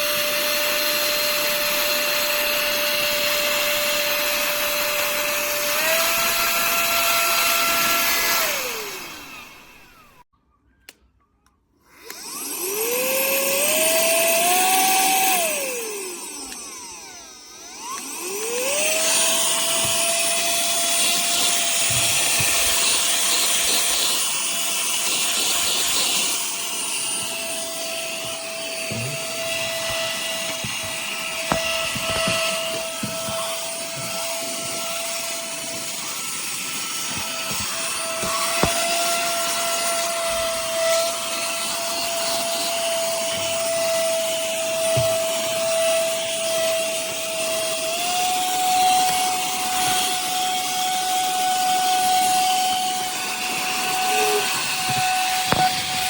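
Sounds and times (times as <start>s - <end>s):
handheld vacuum motor whine: 0.0s - 10.3s, 11.8s - 56.0s.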